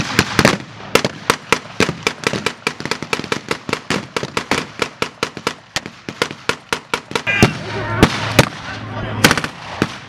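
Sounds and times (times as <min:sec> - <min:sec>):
rifles firing blanks: 0:00.0 - 0:10.0.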